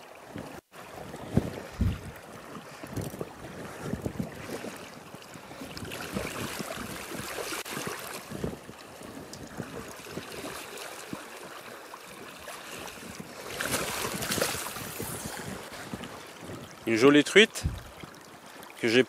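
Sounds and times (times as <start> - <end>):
flowing river water: 0.0 - 19.0
wind on microphone: 0.3 - 11.4, 12.2 - 18.2.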